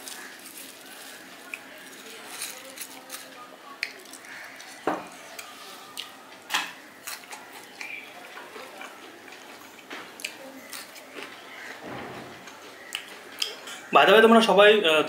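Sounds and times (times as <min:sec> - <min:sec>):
chewing crisp food: 0:00.0 - 0:11.8, 0:12.4 - 0:13.9.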